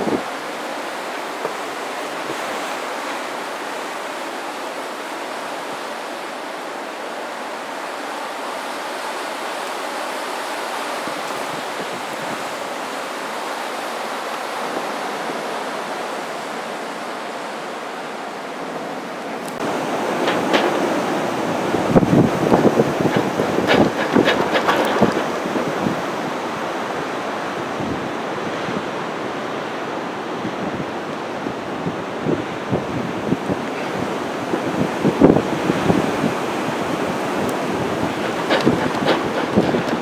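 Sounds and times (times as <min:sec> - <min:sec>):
blizzard wind blowing: 0:00.0 - 0:40.0.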